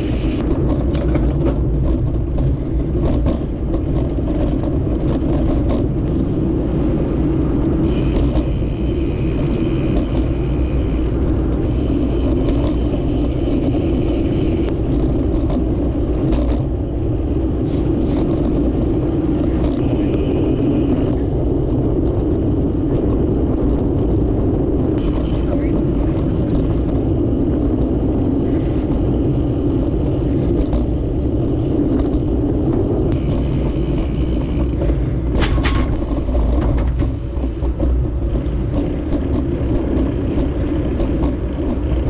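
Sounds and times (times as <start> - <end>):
wind noise on microphone: 0.0 - 42.0.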